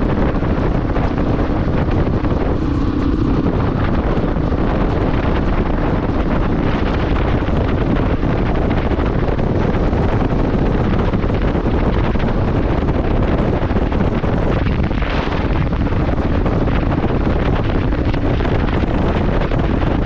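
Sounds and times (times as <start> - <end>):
loud wind rush on microphone: 0.0 - 20.0.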